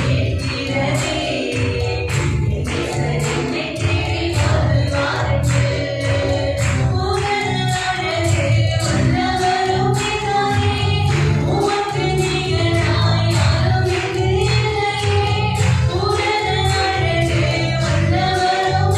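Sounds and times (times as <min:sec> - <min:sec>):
bass: 0:00.0 - 0:18.9
choir singing: 0:00.0 - 0:18.9.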